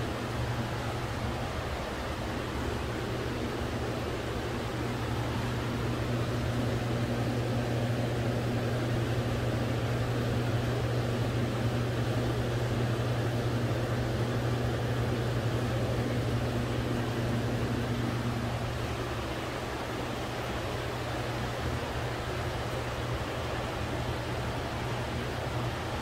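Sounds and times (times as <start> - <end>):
low machinery hum: 0.0 - 26.0.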